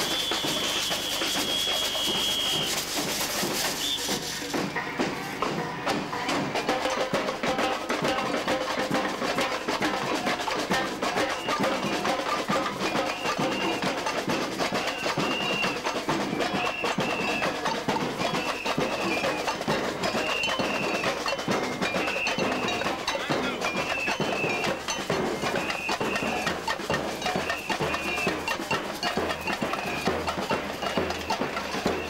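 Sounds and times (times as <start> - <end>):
samba drums playing: 0.0 - 32.0.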